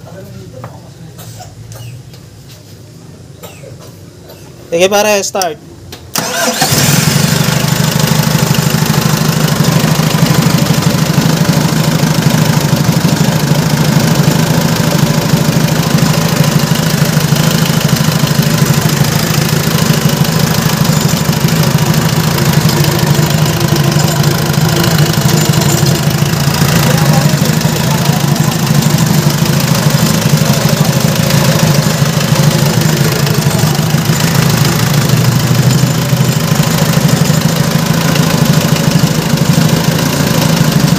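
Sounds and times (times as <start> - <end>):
diesel engine idling: 6.1 - 40.9.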